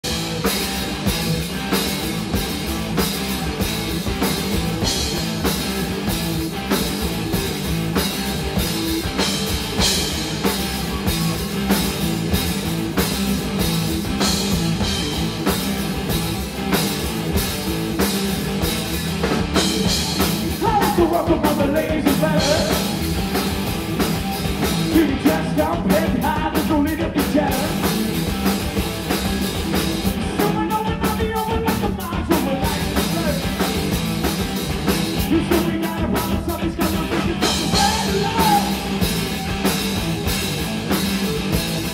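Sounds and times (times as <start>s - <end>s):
bass guitar: 0.0s - 41.9s
drum kit beat: 0.0s - 41.9s
electric guitars: 0.0s - 41.9s.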